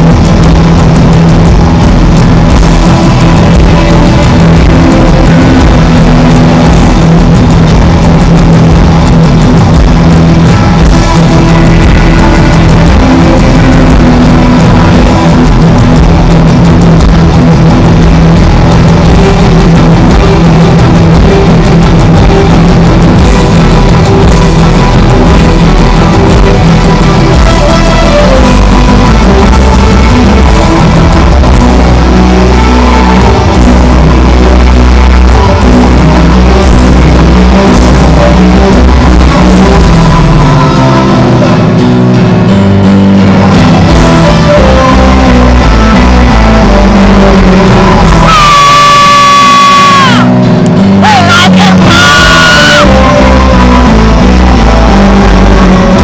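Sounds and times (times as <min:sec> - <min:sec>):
loud live rock band: 0:00.0 - 0:56.0.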